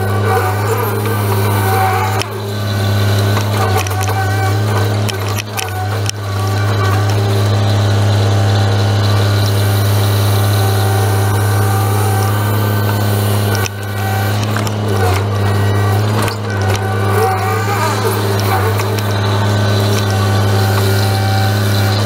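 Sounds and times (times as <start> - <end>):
truck engine and hydraulic loader: 0.0 - 22.0.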